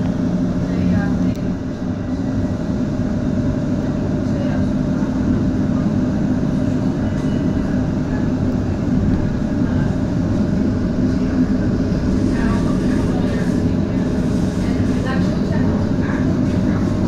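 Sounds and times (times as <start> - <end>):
tram motor hum: 0.0 - 17.0
tram wheels rumbling on track: 0.0 - 17.0.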